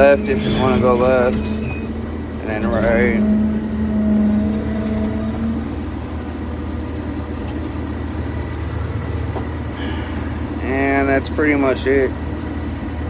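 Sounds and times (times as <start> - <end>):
bulldozer engine running: 0.0 - 13.0
steady whine: 0.0 - 13.0.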